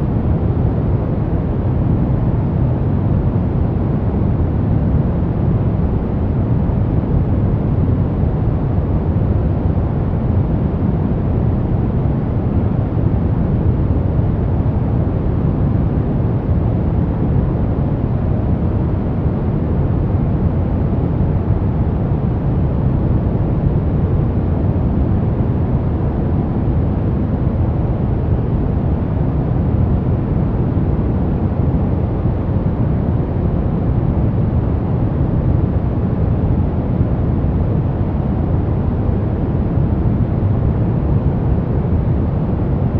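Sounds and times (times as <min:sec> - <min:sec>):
deep white noise hiss: 0:00.0 - 0:42.9.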